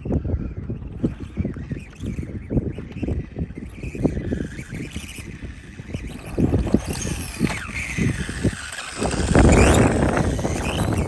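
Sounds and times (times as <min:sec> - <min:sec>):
electric motor whining: 0:00.0 - 0:11.0
wind rumbling on microphone: 0:00.0 - 0:11.0.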